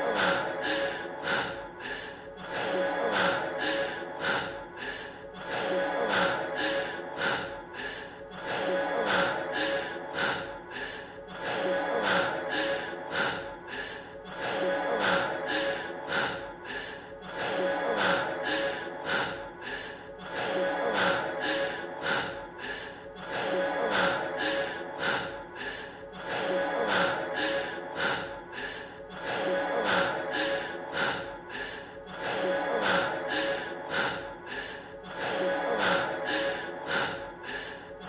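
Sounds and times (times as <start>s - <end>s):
man breathing heavily: 0.0s - 38.0s.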